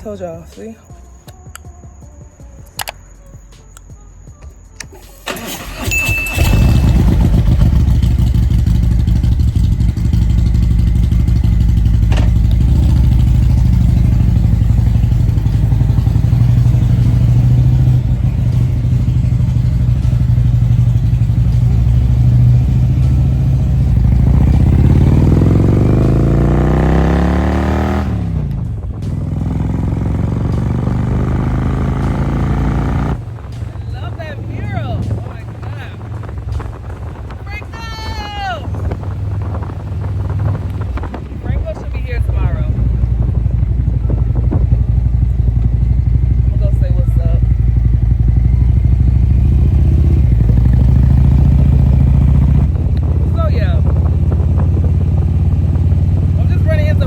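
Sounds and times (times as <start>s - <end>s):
motorcycle engine idling: 0.0s - 57.0s
motorcycle engine starting: 4.8s - 57.0s
motorcycle engine revving: 5.2s - 57.0s.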